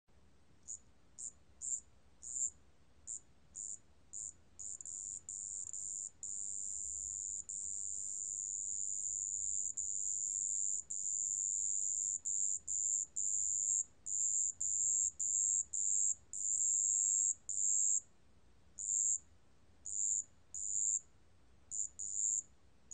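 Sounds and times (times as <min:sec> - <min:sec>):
cricket trilling: 0:00.7 - 0:18.0, 0:18.8 - 0:19.2, 0:19.8 - 0:21.0, 0:21.7 - 0:22.5.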